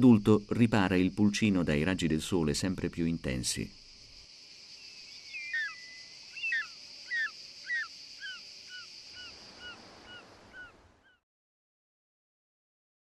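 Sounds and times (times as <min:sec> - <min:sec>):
cicadas singing: 0:00.0 - 0:11.2.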